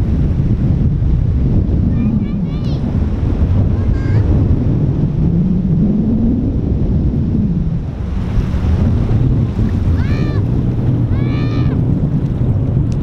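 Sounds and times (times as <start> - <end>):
shallow surf washing: 0.0 - 13.0
wind buffeting microphone: 0.0 - 13.0.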